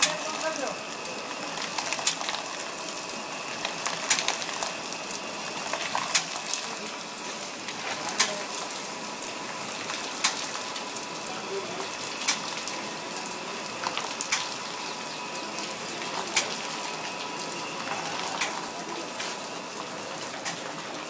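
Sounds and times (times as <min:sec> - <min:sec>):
faint machine whine: 0:00.0 - 0:21.0.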